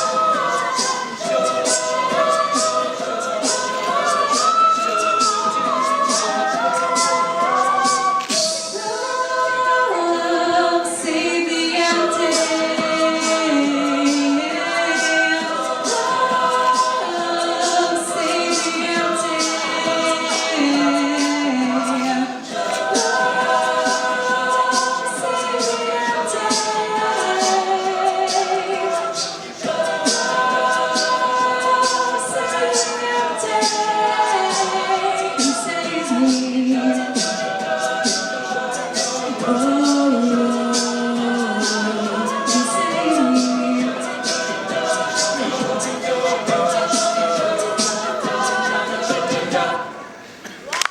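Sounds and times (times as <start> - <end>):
a cappella group singing: 0.0 - 50.7
beatboxed percussion: 0.0 - 50.9.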